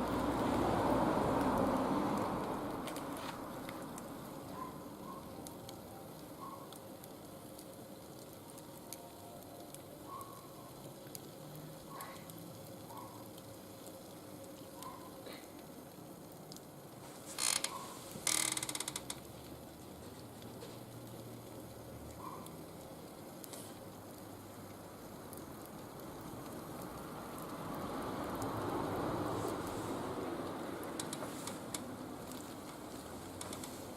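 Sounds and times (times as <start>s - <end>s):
low hiss: 0.0s - 33.9s
wood fire crackling and popping: 0.0s - 33.9s.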